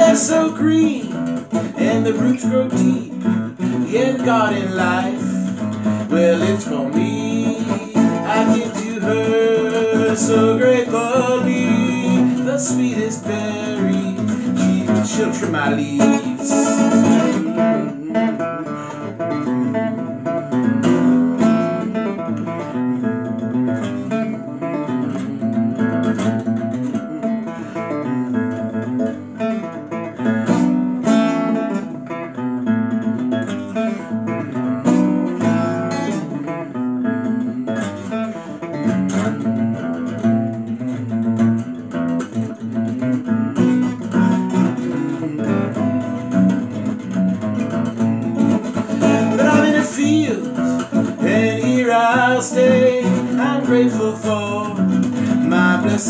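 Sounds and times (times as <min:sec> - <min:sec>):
acoustic guitar chords: 0:00.0 - 0:56.0.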